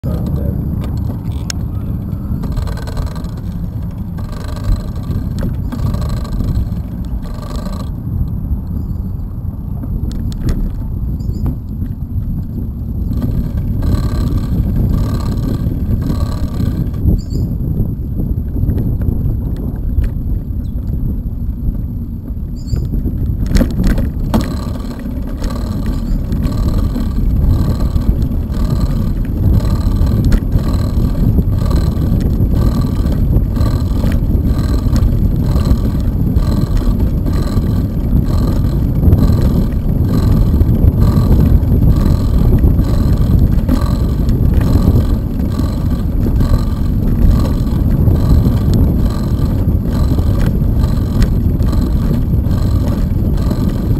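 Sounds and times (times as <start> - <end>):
bicycle tyres rolling over boards: 0.0 - 8.0, 9.7 - 17.6, 18.2 - 53.9
wheels knocking on board joints: 0.0 - 8.4, 9.7 - 17.5, 18.4 - 53.9
wind rumble on microphone: 0.0 - 53.9.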